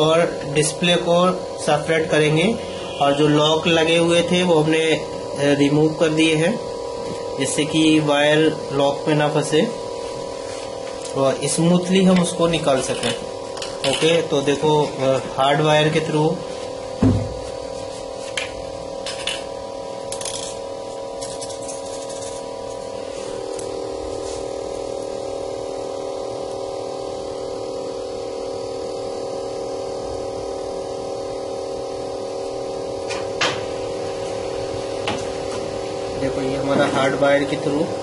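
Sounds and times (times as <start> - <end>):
vacuum pump humming: 0.0 - 38.0.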